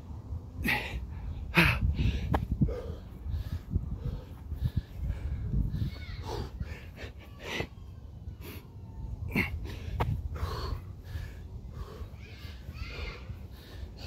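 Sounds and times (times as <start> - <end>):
man breathing hard: 0.6 - 7.8, 8.4 - 14.0.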